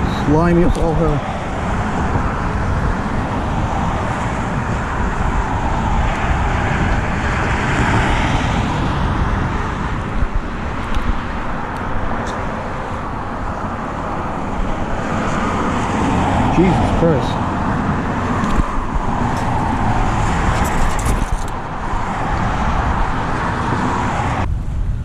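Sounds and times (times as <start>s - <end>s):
vehicle passing by: 0.0s - 24.5s
road traffic noise: 0.0s - 25.0s.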